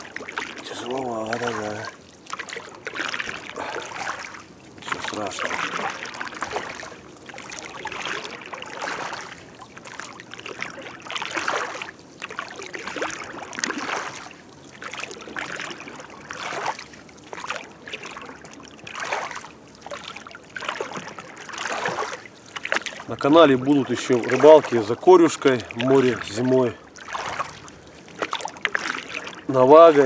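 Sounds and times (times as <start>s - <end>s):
oars splashing in water: 0.0s - 30.0s.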